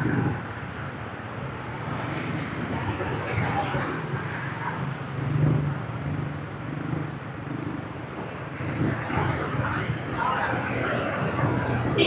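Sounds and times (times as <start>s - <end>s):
surrounding traffic: 0.0s - 12.0s.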